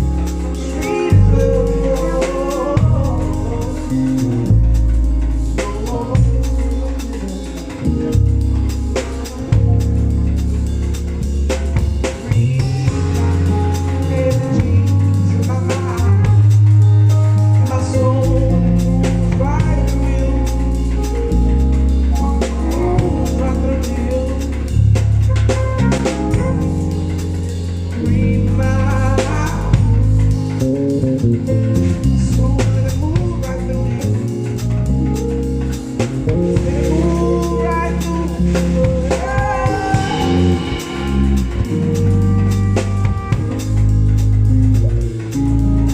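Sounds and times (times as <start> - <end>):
drum kit: 0.0 - 45.9
guitar: 0.0 - 45.9
melody over the top: 0.0 - 45.9
steady bass line: 0.0 - 45.9.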